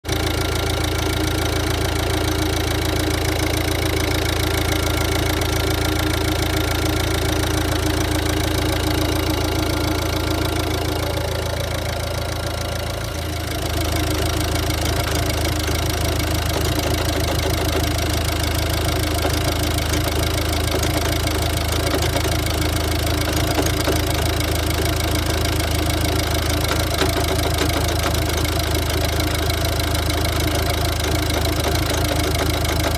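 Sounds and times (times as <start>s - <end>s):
diesel engine idling roughly: 0.1s - 32.9s.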